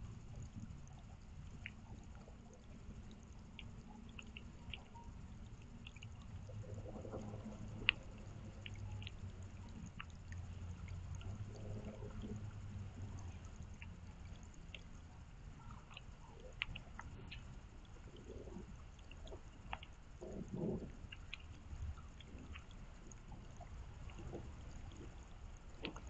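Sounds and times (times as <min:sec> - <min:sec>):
low trickle of water: 0:00.0 - 0:26.0
rain drops ticking: 0:00.0 - 0:26.0.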